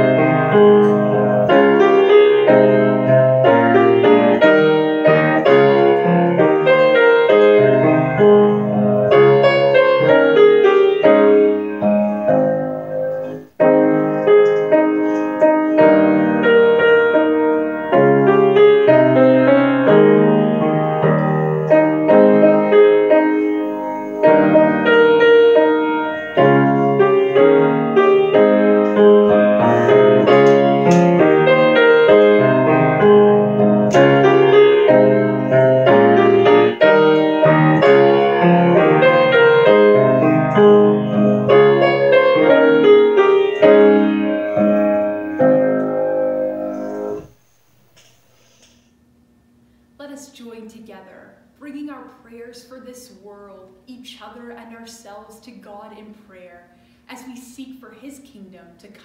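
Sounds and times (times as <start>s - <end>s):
grand piano chords: 0.0s - 48.1s.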